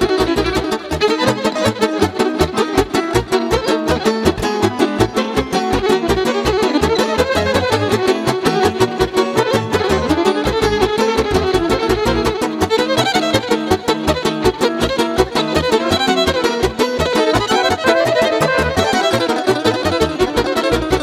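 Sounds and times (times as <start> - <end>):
fast dance tune with lead violin: 0.0 - 21.0.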